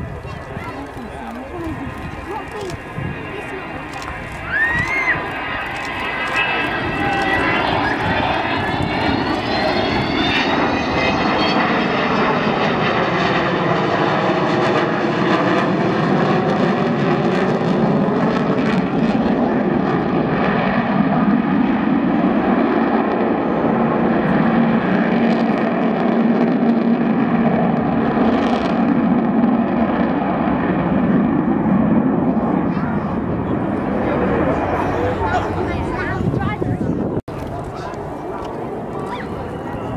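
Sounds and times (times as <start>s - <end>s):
jet bomber flying past: 0.0s - 39.9s.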